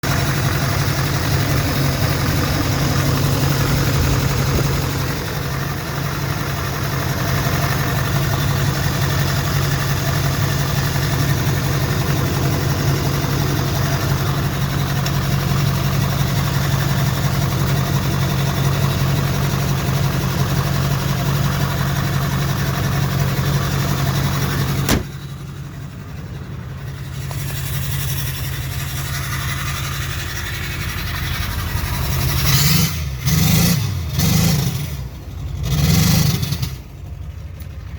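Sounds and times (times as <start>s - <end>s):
diesel engine idling with misfire: 0.0s - 37.9s.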